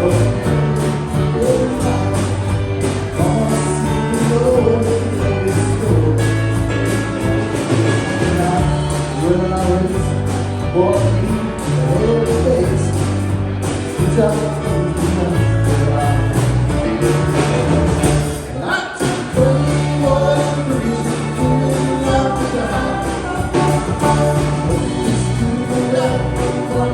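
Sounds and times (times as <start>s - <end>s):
bass line: 0.0s - 26.9s
person singing: 0.0s - 26.9s.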